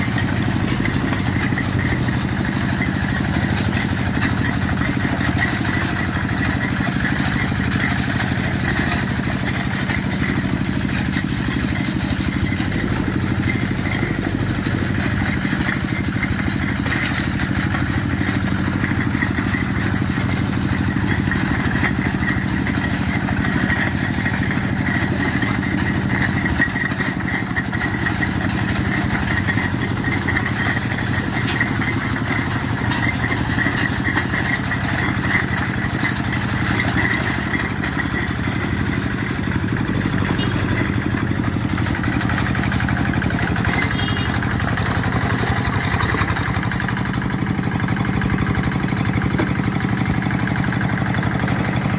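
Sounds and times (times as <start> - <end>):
diesel engine running: 0.0 - 51.9
rattling clatter: 0.0 - 51.9.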